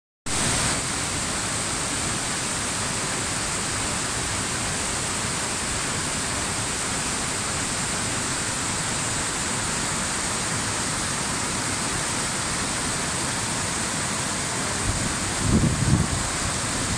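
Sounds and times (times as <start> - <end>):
waterfall rushing over boulders: 0.3 - 16.9.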